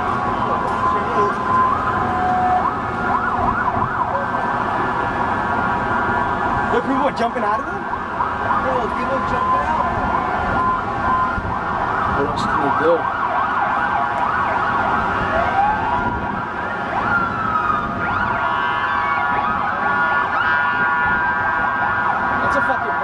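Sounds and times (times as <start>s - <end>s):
emergency sirens wailing: 0.0s - 23.0s
street din: 0.0s - 23.0s.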